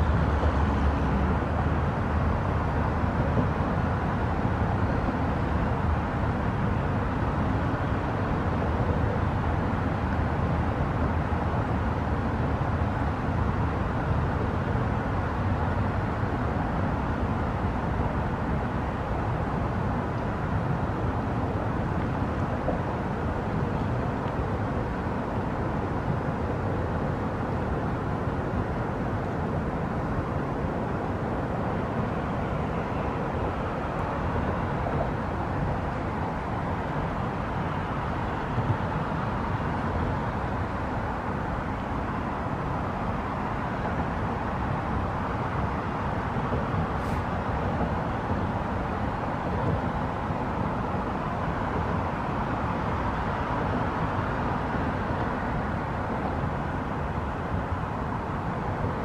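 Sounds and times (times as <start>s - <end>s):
low rumble and hiss: 0.0s - 59.0s
river water rushing around rocks: 0.0s - 59.0s.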